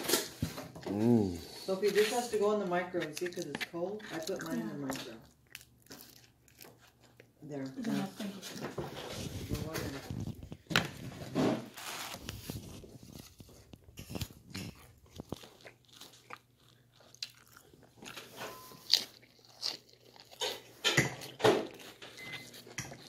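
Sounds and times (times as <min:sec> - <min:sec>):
chewing crunchy pizza: 0:00.0 - 0:10.7, 0:12.1 - 0:23.0.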